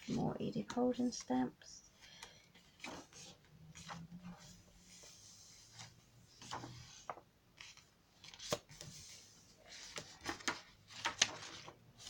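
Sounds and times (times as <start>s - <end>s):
paper pages rustling: 2.0s - 12.0s.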